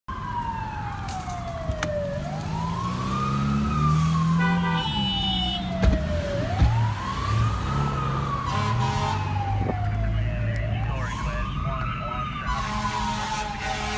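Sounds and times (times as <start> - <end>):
fire engine siren wailing: 0.1 - 13.9
traffic rumble: 0.1 - 13.9.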